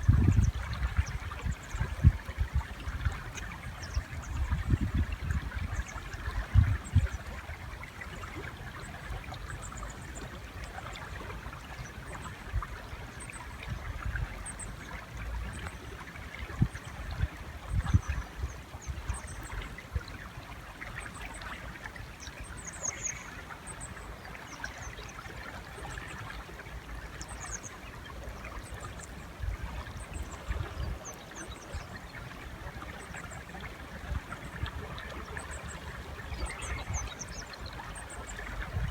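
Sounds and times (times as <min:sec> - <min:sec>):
river water flowing: 0:00.6 - 0:38.9.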